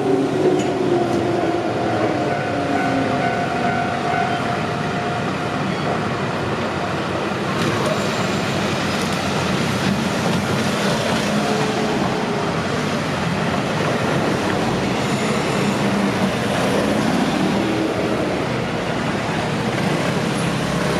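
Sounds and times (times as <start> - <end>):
train wheels on rail: 0.0 - 20.9.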